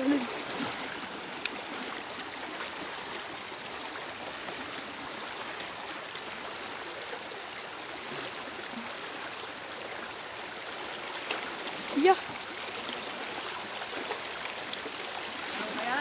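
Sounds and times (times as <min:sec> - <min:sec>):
stream rushing over stones: 0:00.0 - 0:16.0.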